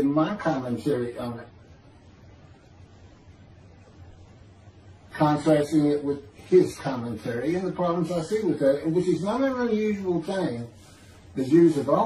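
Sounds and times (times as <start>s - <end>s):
faint hiss: 0.0s - 12.0s
low hum: 0.0s - 12.0s.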